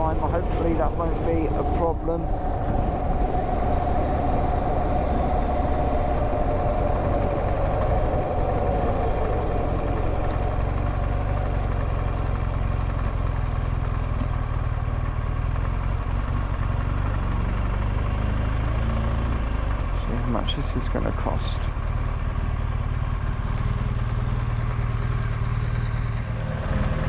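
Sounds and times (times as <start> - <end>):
motorcycle engine idling: 0.0 - 26.5.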